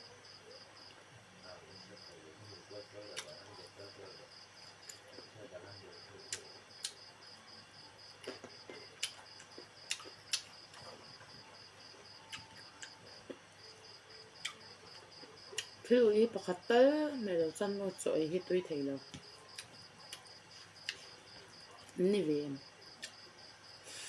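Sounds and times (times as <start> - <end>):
cricket chirping: 0.0 - 24.0.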